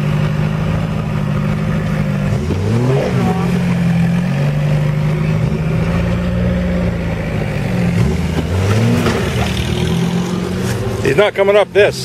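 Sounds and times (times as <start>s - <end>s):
engine revving under load: 0.0s - 11.4s.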